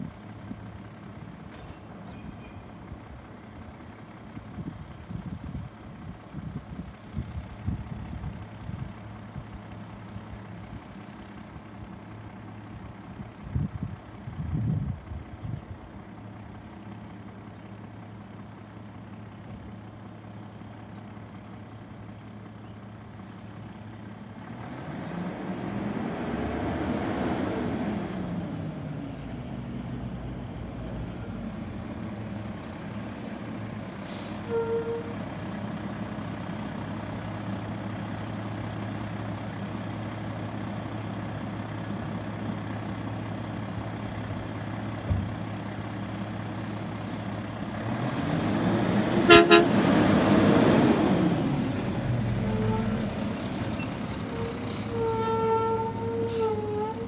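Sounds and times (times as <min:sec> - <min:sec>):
diesel engine idling and revving: 0:00.0 - 0:57.0.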